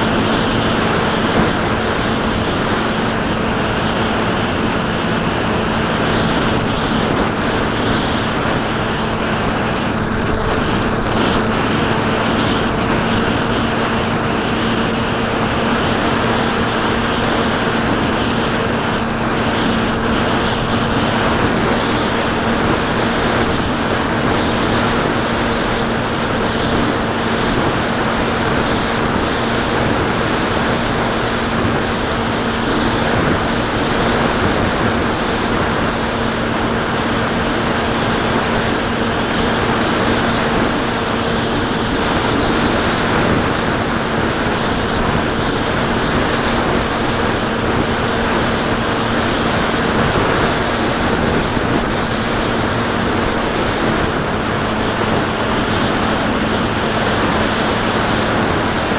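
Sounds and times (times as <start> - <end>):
electric propeller motor humming: 0.0 - 58.9
rushing airflow: 0.0 - 58.9.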